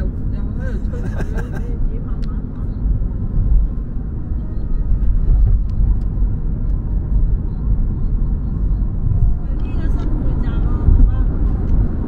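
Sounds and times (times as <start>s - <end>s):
vehicle rumbling in motion: 0.0s - 12.0s.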